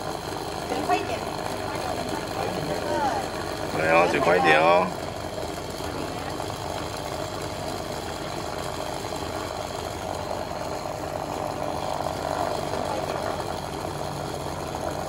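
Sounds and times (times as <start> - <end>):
cotton candy machine running: 0.0 - 15.0.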